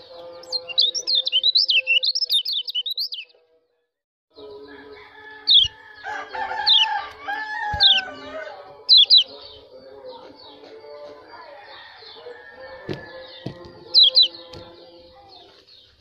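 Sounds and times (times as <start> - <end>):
bird twittering high chirps: 0.0 - 3.4, 4.4 - 16.0.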